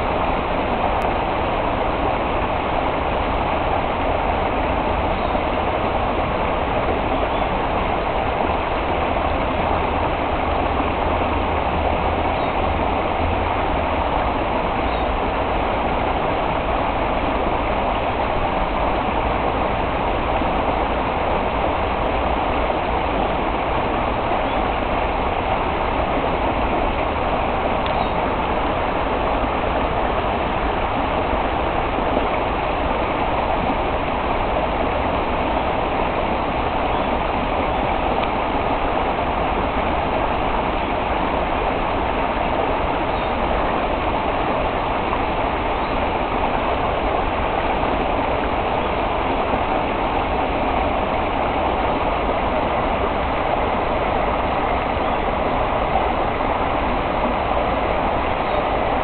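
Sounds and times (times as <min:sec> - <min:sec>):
flowing stream rushing: 0:00.0 - 0:59.0.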